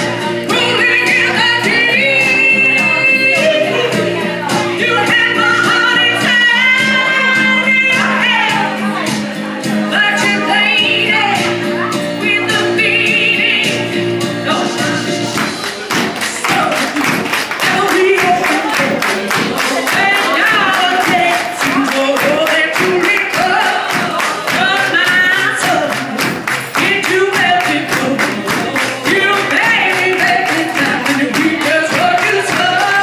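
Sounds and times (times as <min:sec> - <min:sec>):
woman singing into a microphone: 0:00.0 - 0:15.2, 0:16.5 - 0:33.0
accompanying music with steady beat: 0:00.0 - 0:33.0.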